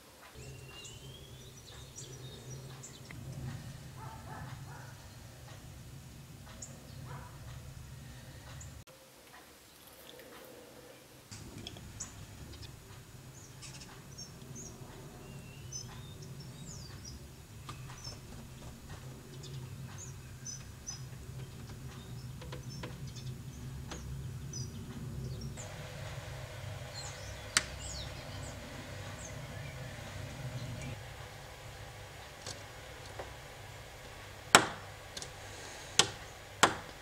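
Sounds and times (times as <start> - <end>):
small birds chirping: 0.2 - 8.8, 9.5 - 37.0
low hum: 0.4 - 8.9, 11.3 - 37.0.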